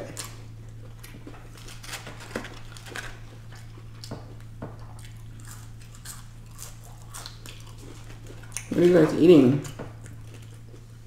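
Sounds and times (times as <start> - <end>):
person chewing fried food: 0.0 - 11.0
steady low hum: 0.0 - 11.0.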